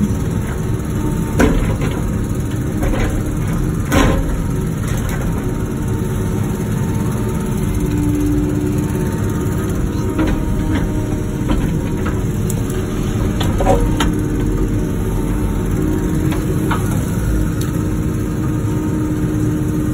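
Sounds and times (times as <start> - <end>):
excavator engine running: 0.0 - 19.9
steady whine: 0.0 - 19.9.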